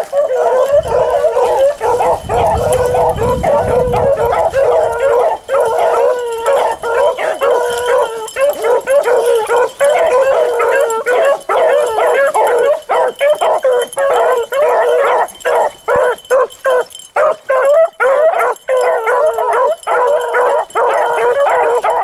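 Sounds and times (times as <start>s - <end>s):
pack of hounds baying: 0.0s - 22.0s.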